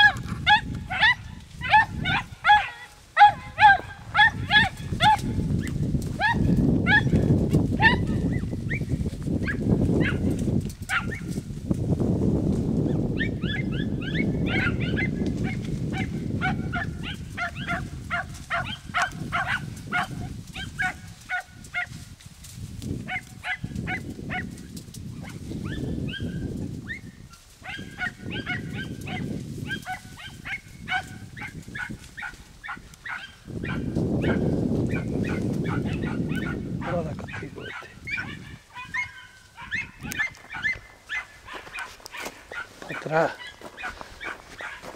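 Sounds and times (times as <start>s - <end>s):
hounds yelping: 0.0s - 11.4s, 12.9s - 22.0s, 23.0s - 24.6s, 25.2s - 44.9s.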